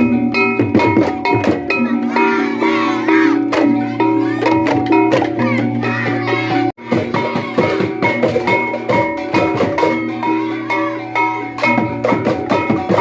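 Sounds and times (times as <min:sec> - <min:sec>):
ringing metal percussion tones: 0:00.0 - 0:13.0.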